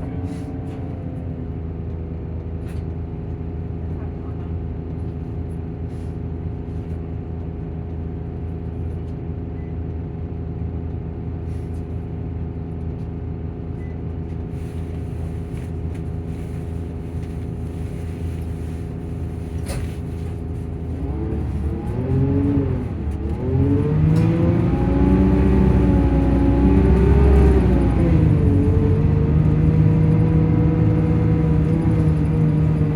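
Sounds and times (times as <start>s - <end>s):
coach diesel engine running: 0.0s - 32.9s.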